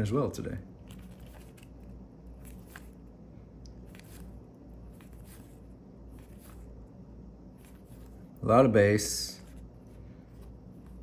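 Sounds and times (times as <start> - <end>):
low hum: 0.4 - 11.0.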